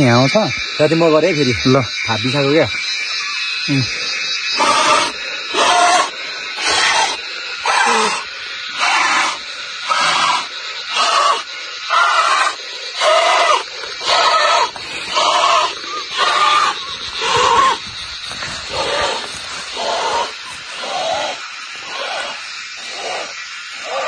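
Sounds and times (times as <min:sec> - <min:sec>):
person blowing hard into valve: 0:03.7 - 0:24.0.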